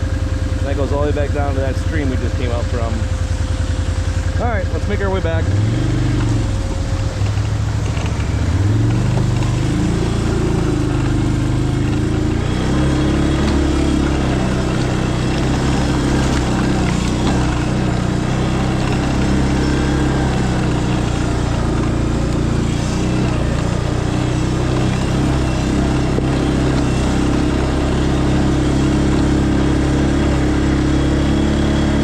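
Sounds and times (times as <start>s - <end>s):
small vehicle engine driving: 0.0s - 32.0s.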